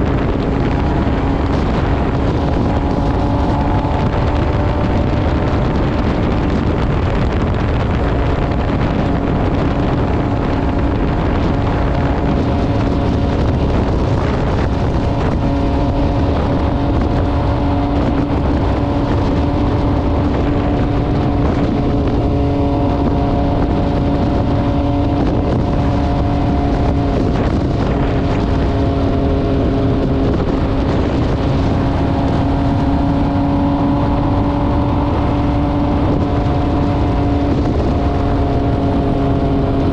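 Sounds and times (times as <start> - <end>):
motorcycle engine running steadily: 0.0 - 39.9
wind rushing over microphone: 0.0 - 39.9.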